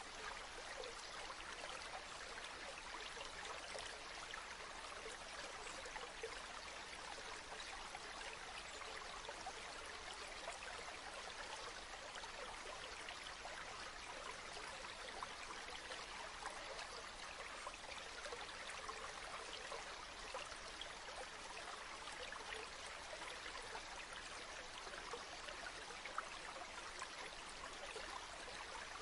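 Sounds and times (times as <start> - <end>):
stream babbling: 0.0 - 29.0.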